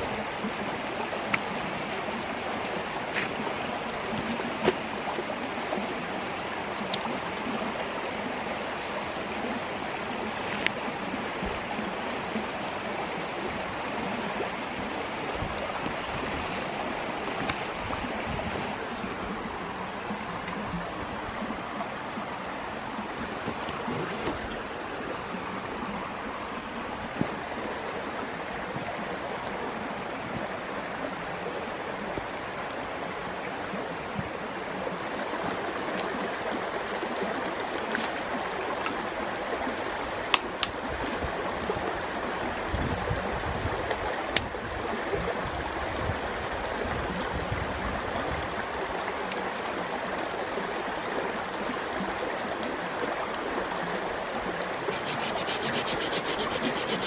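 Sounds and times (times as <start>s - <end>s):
creek water flowing: 0.0s - 57.0s.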